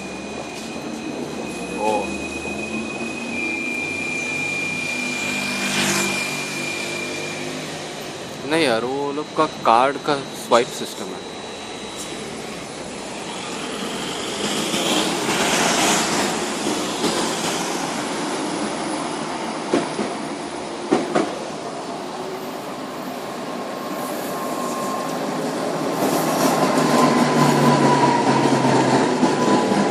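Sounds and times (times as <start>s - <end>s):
tram running on rails: 0.0s - 29.9s
tram whine: 0.0s - 29.9s.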